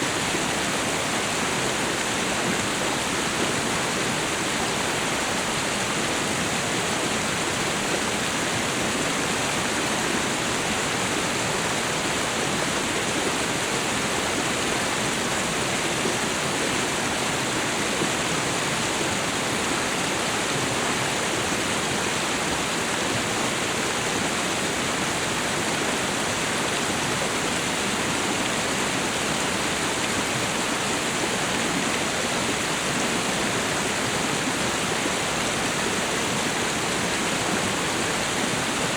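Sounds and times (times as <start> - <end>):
waterfall and river rushing: 0.0 - 38.9.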